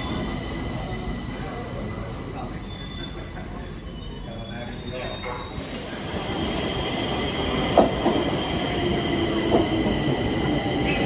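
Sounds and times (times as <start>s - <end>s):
train wheels squealing: 0.0s - 8.0s, 9.4s - 11.0s
metro train rumbling on track: 0.0s - 11.0s.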